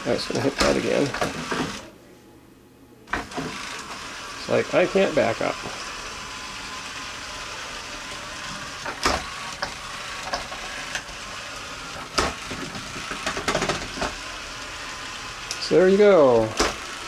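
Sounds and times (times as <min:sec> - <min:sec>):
robot vacuum motors whirring: 0:00.0 - 0:01.9, 0:03.1 - 0:17.0.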